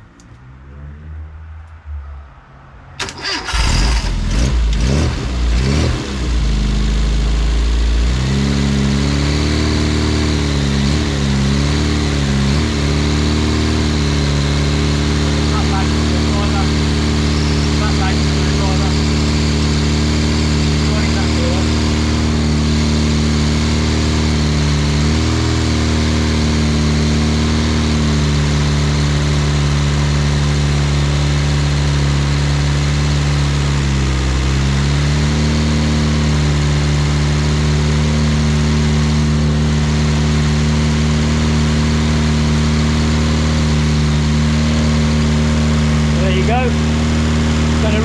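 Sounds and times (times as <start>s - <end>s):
four-cylinder engine running: 3.0s - 48.0s.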